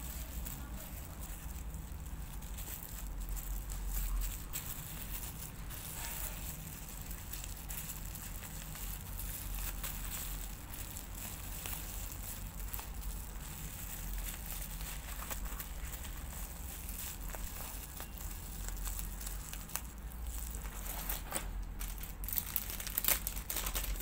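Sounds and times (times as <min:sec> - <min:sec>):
bubble wrap crinkling and crackling: 0:00.0 - 0:24.0.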